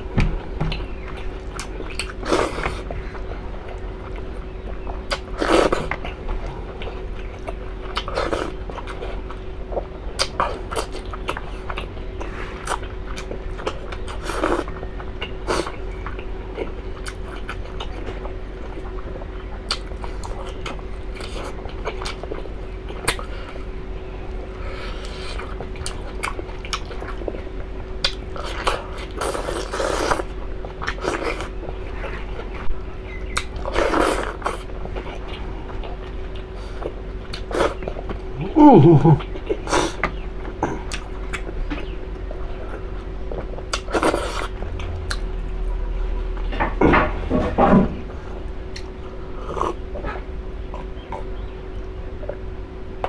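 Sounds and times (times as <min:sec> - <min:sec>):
steady hum: 0:00.0 - 0:53.0
person chewing and smacking: 0:00.3 - 0:23.3, 0:25.0 - 0:46.5, 0:48.5 - 0:51.5.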